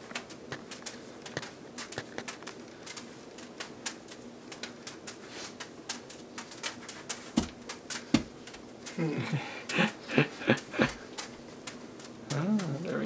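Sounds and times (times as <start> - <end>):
juggling balls landing in hands: 0.0 - 13.0.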